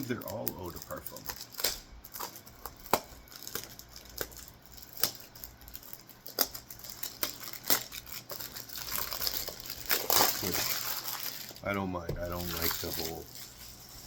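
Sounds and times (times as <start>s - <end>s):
packaging clicks: 0.0s - 11.6s
faint packaging rustling: 0.0s - 14.0s.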